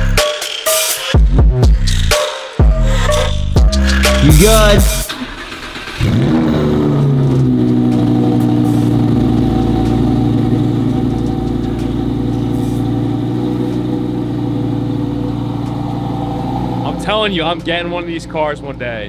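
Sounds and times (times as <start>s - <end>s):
car engine starting and idling: 2.9s - 19.0s.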